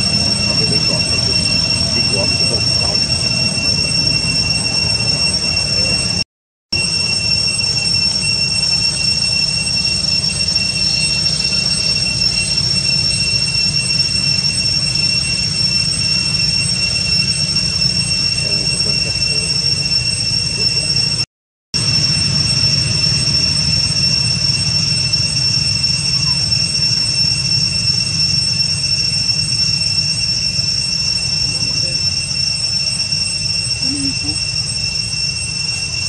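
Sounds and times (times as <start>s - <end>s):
high-pitched insect drone: 0.0s - 6.2s, 6.8s - 21.2s, 21.8s - 36.0s.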